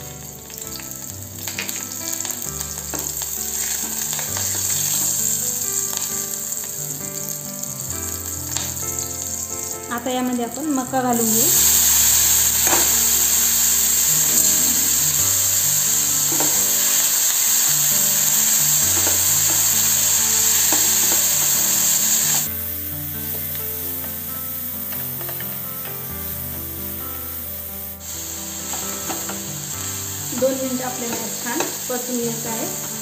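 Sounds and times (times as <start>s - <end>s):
corn sizzling in hot oil: 0.0s - 33.0s.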